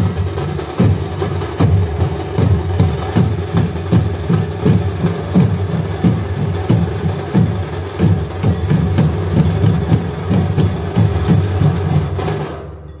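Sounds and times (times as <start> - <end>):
percussion sharp strokes: 0.0 - 13.0.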